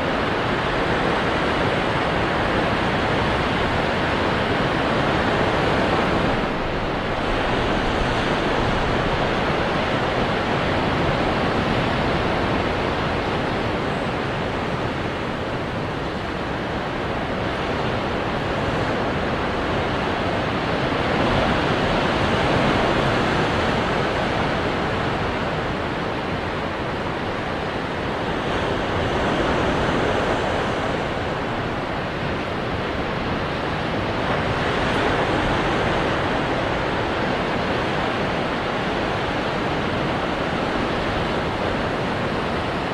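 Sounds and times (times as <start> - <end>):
ocean surf breaking on rocks: 0.0 - 42.9.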